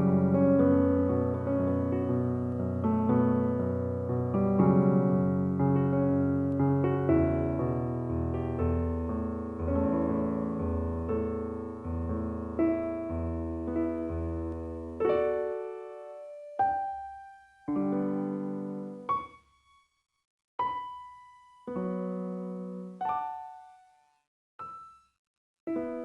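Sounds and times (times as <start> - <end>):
piano music: 0.0 - 19.6, 20.6 - 26.0.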